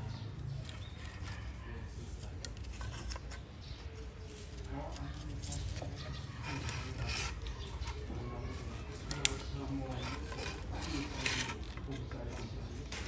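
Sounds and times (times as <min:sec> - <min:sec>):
cord scraping bamboo poles: 0:00.0 - 0:13.0.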